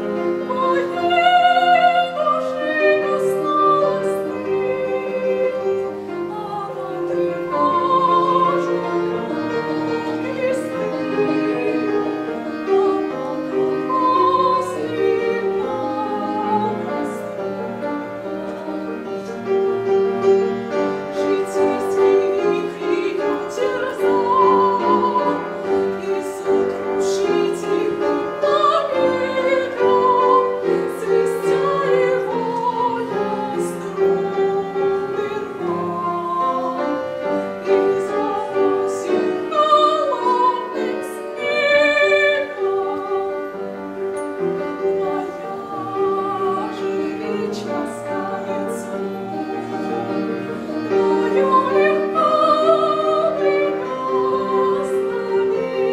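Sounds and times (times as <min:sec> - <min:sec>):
piano: 0:00.0 - 0:55.9
woman singing operatically: 0:00.3 - 0:19.3, 0:21.1 - 0:37.1, 0:37.7 - 0:43.5, 0:45.0 - 0:50.1, 0:50.9 - 0:55.9.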